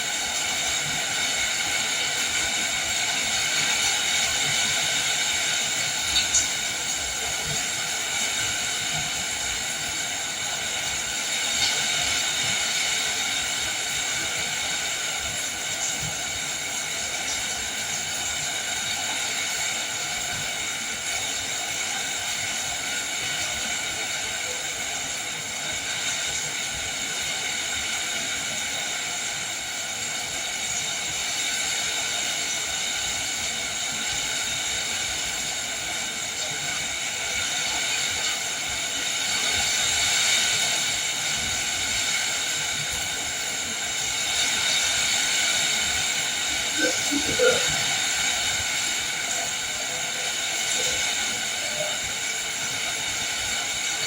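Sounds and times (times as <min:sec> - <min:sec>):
heavy rain in wind: 0:00.0 - 0:54.0.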